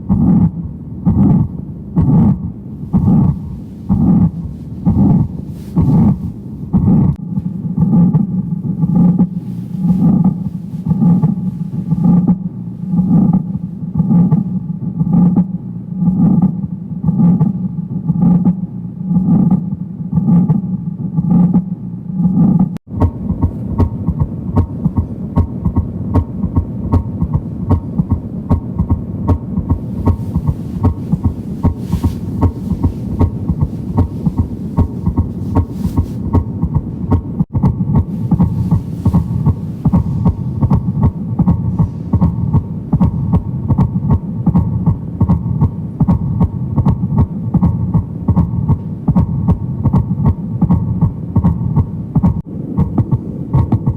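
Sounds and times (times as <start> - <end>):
constant hum: 0.0 - 53.9
heartbeat: 0.0 - 53.9.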